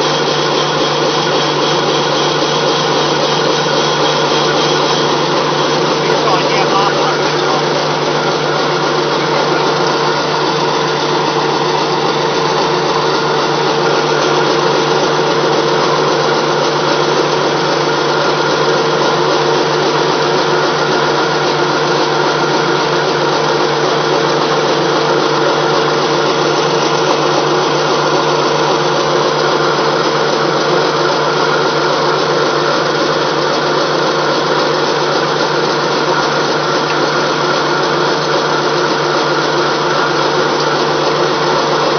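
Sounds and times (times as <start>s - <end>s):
pellet mill running: 0.0s - 41.9s.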